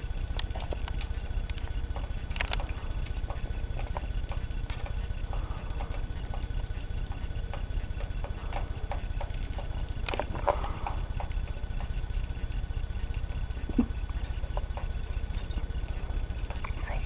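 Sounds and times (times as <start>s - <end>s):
birds pecking at food: 0.0s - 17.0s
steady low rumble: 0.0s - 17.0s.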